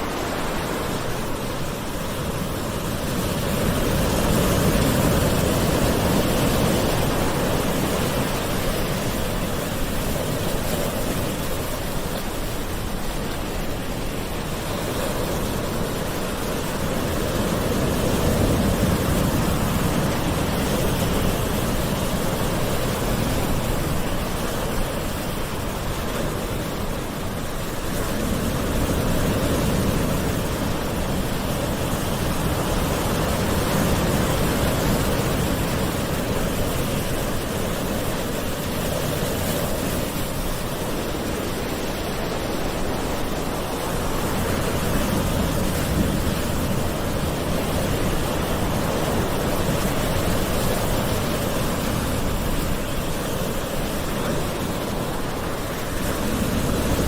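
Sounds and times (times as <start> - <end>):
gentle ocean waves: 0.0 - 57.0.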